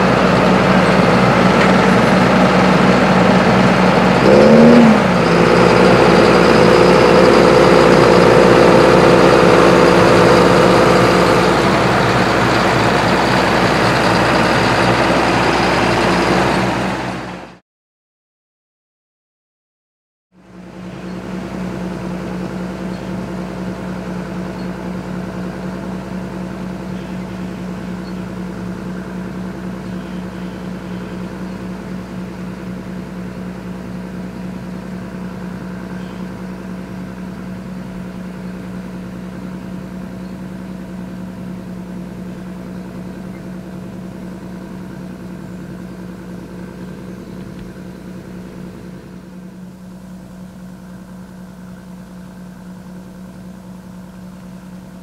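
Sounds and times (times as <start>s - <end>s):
tractor diesel engine running: 0.0s - 17.6s, 20.4s - 55.0s.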